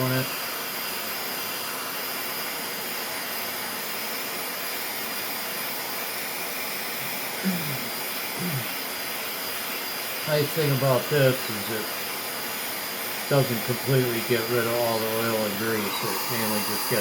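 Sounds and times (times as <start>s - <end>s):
small vacuum whining: 0.0s - 17.0s.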